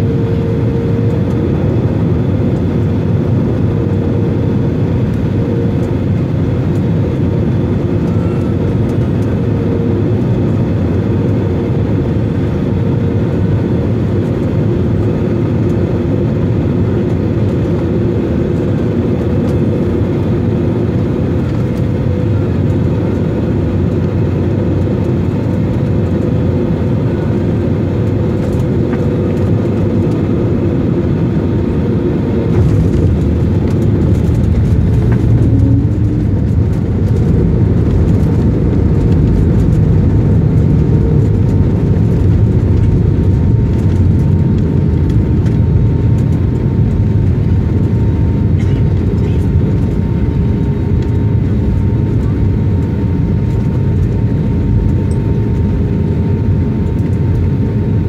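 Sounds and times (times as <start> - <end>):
jet engine and airflow noise: 0.0 - 58.0
plane rolling rumble: 0.0 - 58.0.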